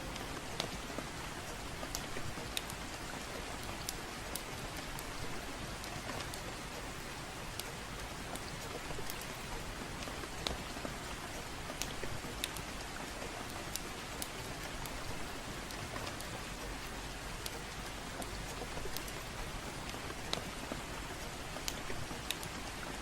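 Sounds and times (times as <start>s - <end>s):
gentle rain: 0.0s - 23.0s.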